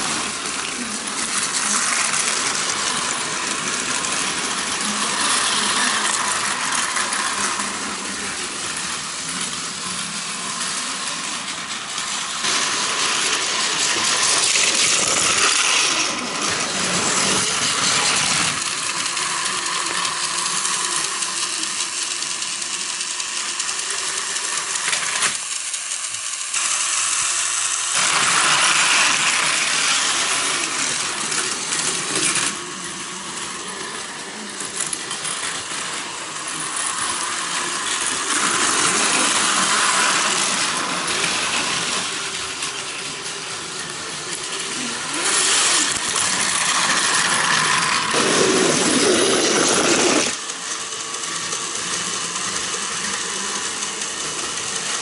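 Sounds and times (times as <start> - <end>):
toy trains rattling on track: 0.0 - 55.0.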